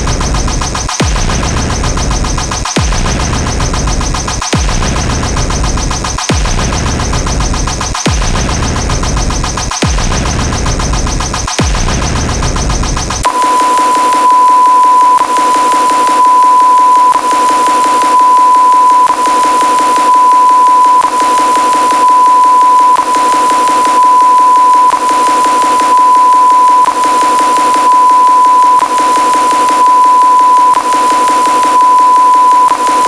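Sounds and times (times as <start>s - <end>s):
steady electronic beep tone: 0.0s - 33.0s.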